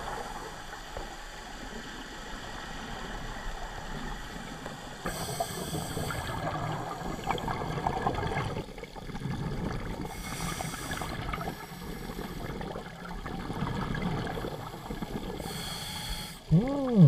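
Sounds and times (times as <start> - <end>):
underwater exhaust bubbles: 0.0 - 17.0.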